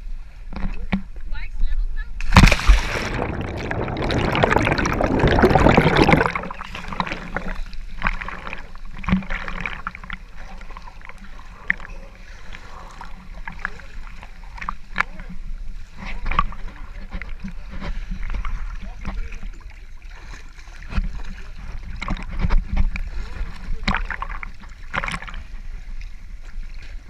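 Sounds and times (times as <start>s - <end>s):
sea water splashing against camera: 2.2s - 27.0s
water lapping: 2.2s - 27.0s.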